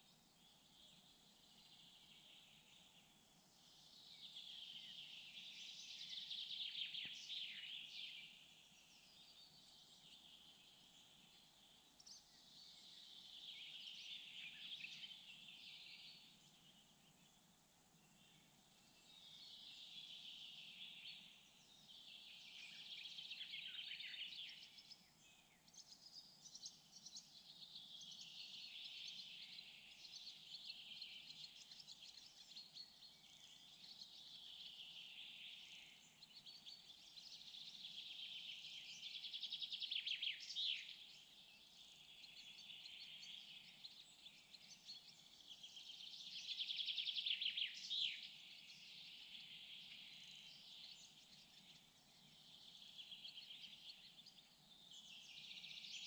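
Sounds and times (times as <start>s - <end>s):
distant songbirds singing: 0.0s - 56.0s.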